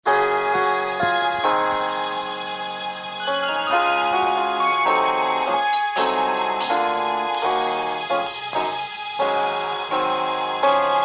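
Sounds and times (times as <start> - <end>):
piano chords on keyboard: 0.0 - 11.0.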